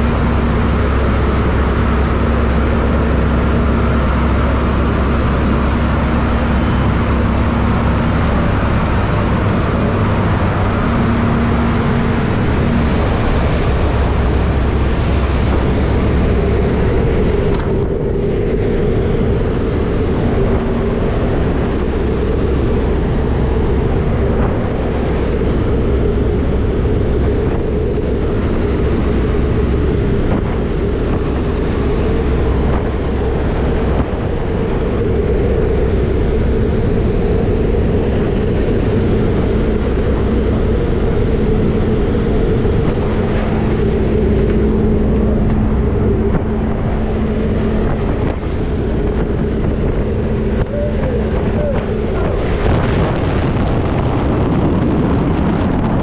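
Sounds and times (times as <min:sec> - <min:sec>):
plane engine drone: 0:00.0 - 0:56.0
wind rushing: 0:00.0 - 0:56.0.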